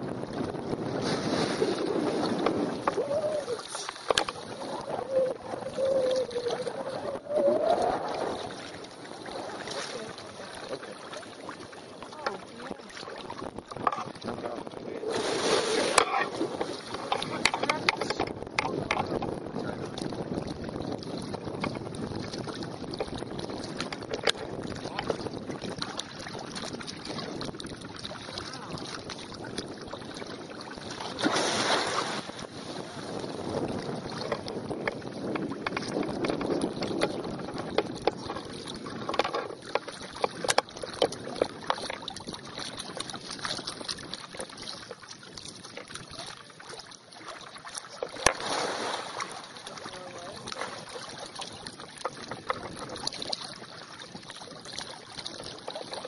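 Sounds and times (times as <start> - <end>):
wind buffeting microphone: 0.0 - 46.8, 48.2 - 56.0
water sloshing and splashing: 0.0 - 56.0
water rushing surge: 0.8 - 20.1, 29.9 - 56.0.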